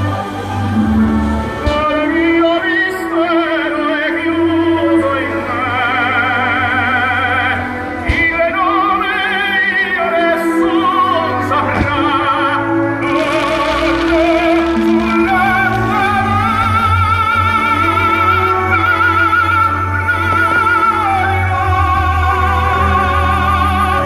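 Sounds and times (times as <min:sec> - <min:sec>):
operatic voice singing: 0:00.0 - 0:24.0
orchestral backing: 0:00.0 - 0:24.0.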